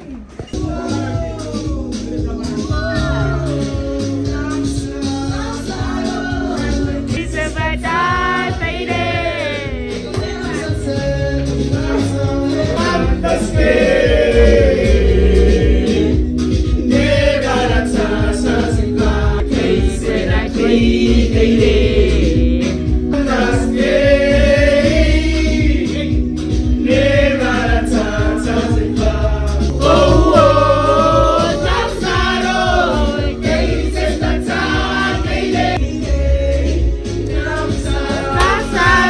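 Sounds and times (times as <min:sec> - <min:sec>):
low musical accompaniment: 0:00.6 - 0:39.0
choir singing: 0:02.5 - 0:39.0.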